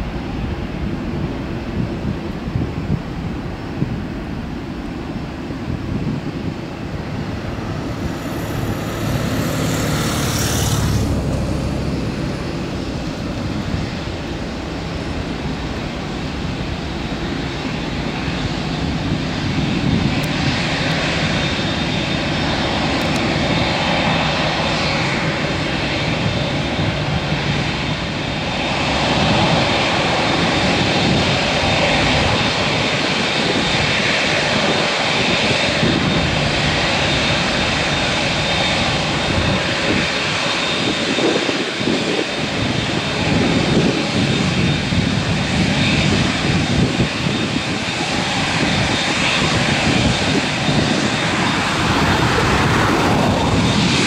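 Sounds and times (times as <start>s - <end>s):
jet engines at taxi power: 0.0s - 54.0s.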